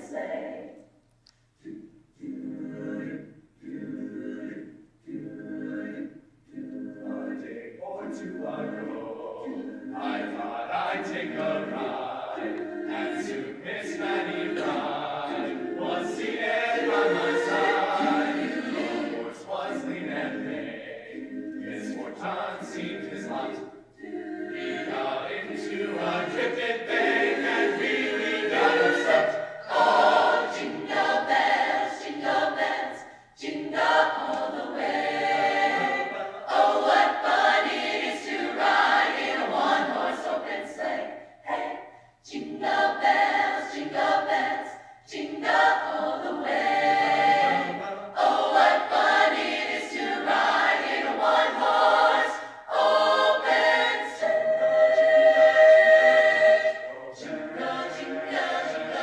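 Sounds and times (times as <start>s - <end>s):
choir singing: 0.0s - 0.9s, 1.6s - 59.0s.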